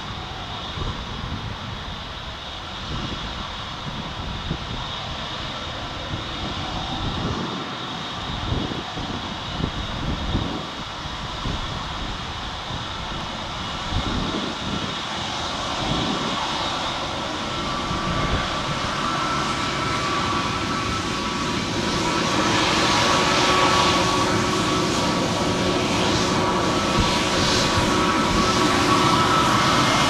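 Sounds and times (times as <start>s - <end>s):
jet engines whining at idle: 0.0s - 30.0s
wind buffeting microphone: 0.0s - 30.0s.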